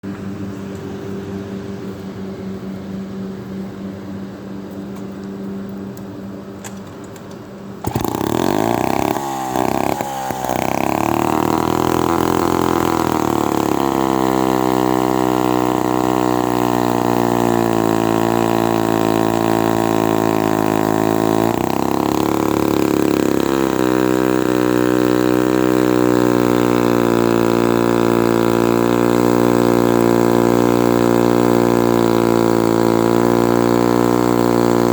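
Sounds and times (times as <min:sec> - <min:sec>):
chainsaw engine cutting wood: 0:06.7 - 0:34.9.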